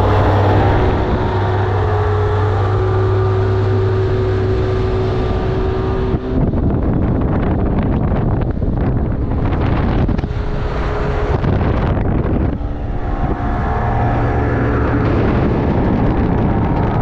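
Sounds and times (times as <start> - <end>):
outboard motor running: 0.0 - 17.0
wind buffeting microphone: 0.0 - 17.0.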